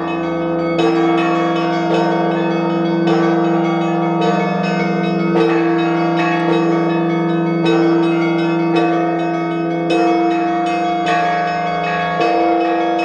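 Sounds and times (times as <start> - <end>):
church bells ringing rhythmically: 0.0 - 13.0
deep bell ringing: 0.0 - 13.0.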